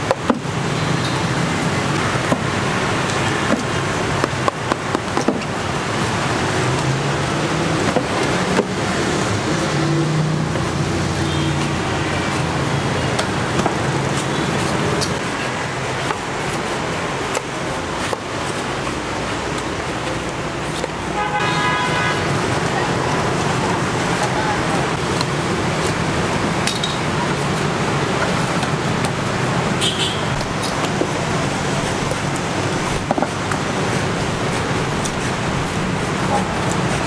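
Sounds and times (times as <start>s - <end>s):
machetes chopping coconut husks: 0.0s - 37.0s
street traffic hum: 0.0s - 37.0s.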